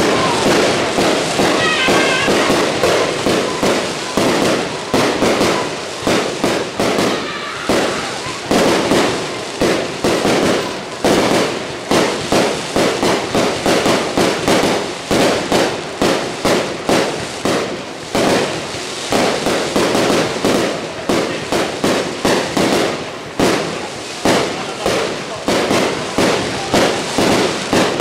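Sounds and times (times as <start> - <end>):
fireworks bangs with rumbling echo: 0.0 - 28.0.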